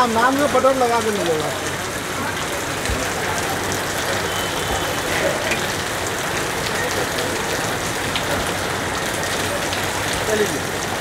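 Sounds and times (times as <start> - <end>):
rain pouring: 0.0 - 11.0.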